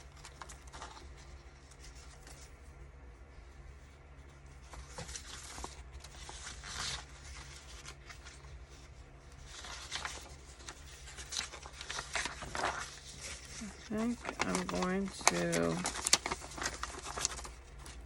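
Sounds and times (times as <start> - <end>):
paper rustling and shuffling: 0.0 - 18.0.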